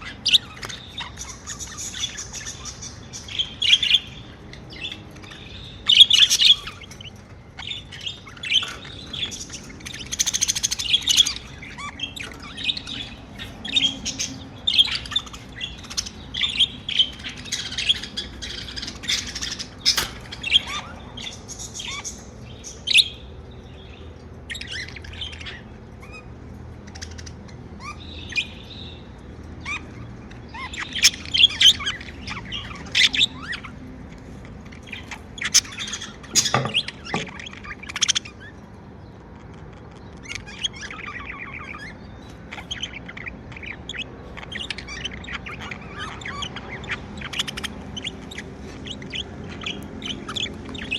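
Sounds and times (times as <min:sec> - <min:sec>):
budgerigars chirping and warbling: 0:00.0 - 0:50.9.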